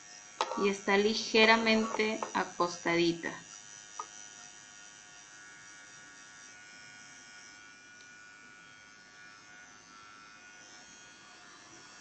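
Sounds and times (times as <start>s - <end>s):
electric nail drill whining: 0.0s - 12.0s.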